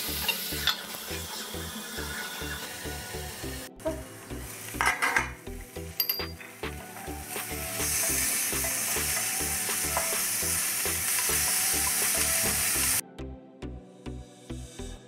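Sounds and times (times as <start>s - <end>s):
fish sizzling in grill pan: 0.0s - 3.6s, 4.2s - 13.0s.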